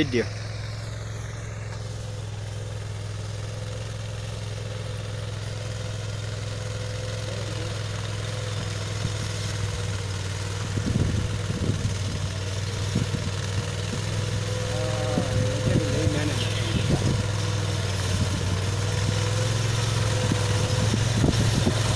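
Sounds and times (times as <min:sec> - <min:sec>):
machine engine droning: 0:00.0 - 0:21.9.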